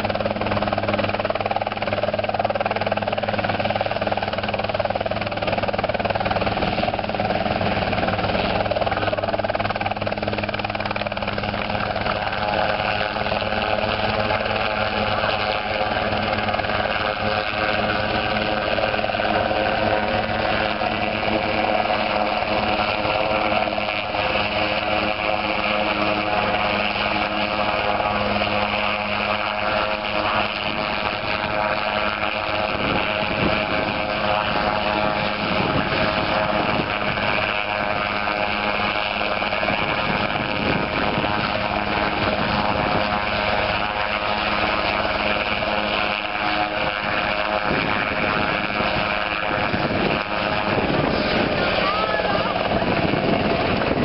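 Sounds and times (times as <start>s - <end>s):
helicopter engine and rotor: 0.0s - 54.0s.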